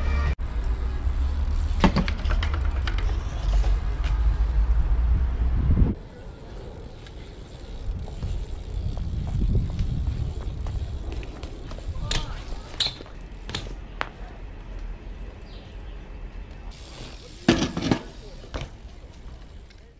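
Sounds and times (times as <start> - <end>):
bike clacks: 0.2 - 4.7, 6.8 - 19.9
bike rolling over paving: 0.6 - 4.7, 6.0 - 19.9.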